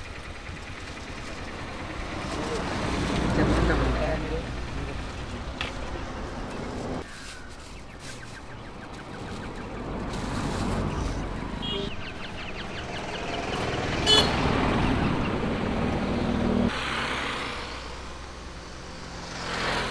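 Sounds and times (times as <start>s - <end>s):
vehicle engine passing: 0.3s - 7.0s, 8.4s - 19.9s.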